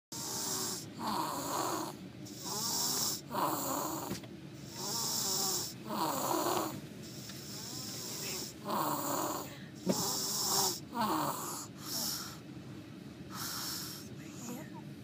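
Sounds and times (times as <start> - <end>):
rasping snoring breaths: 0.2 - 12.5, 13.3 - 14.6.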